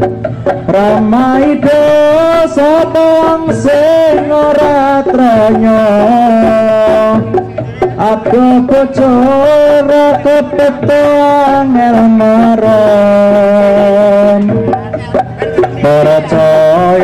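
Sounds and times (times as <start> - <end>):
hand-drum strokes: 0.0 - 17.0
wavering held melody: 0.0 - 17.0.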